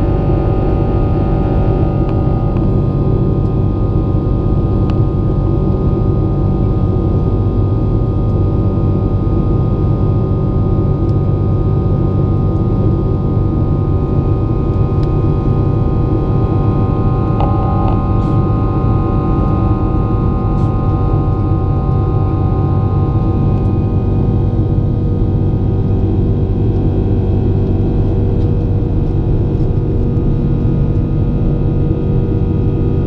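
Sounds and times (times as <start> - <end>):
aircraft engine and airflow drone: 0.0 - 33.0.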